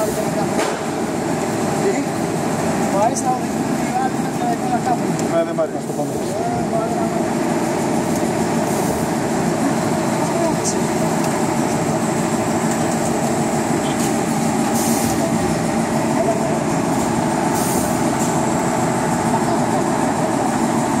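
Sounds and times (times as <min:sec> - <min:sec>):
packaging machine running: 0:00.0 - 0:21.0.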